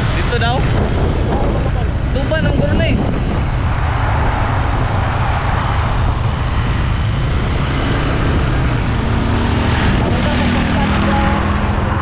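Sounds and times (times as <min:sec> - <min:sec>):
motorcycle road rumble: 0:00.0 - 0:12.0
wind noise: 0:00.0 - 0:12.0.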